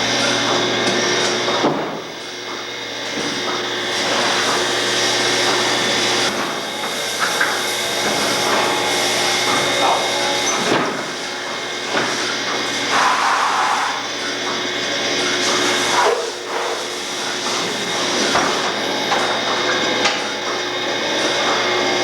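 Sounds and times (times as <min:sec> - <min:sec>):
milking vacuum system hissing: 0:03.1 - 0:22.0.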